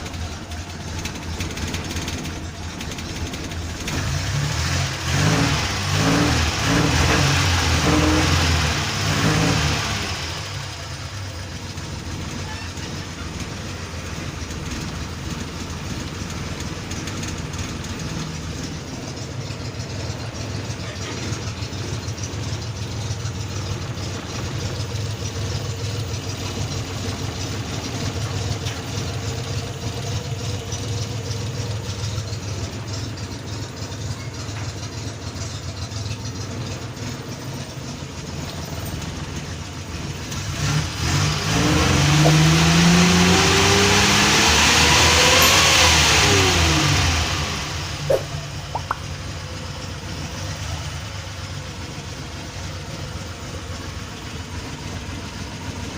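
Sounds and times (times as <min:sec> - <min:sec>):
pickup engine idling and revving: 0:00.0 - 0:55.9.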